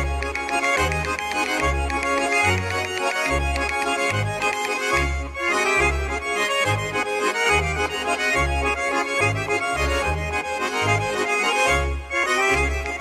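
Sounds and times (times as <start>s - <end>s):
accordion folk music: 0.0s - 13.0s
low bass notes: 0.0s - 13.0s.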